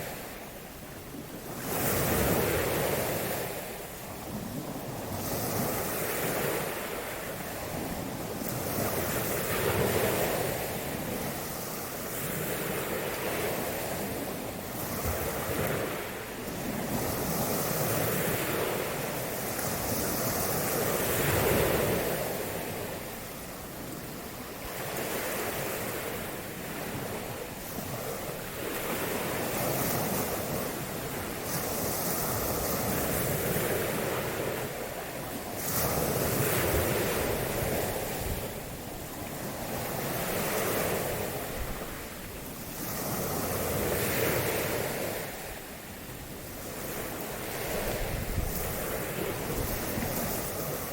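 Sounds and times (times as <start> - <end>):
waves washing onto shore: 0.0 - 50.9.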